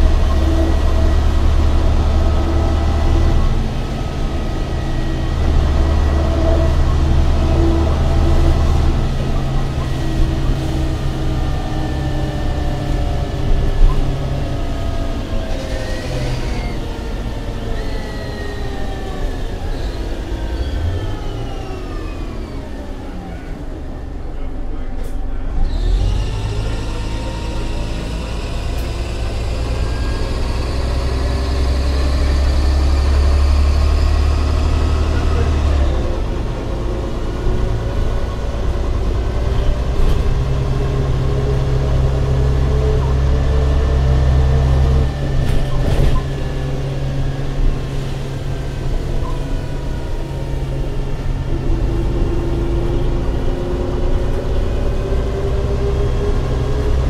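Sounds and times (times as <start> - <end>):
bus diesel engine running: 0.0 - 57.0
rising drivetrain whine: 0.0 - 57.0.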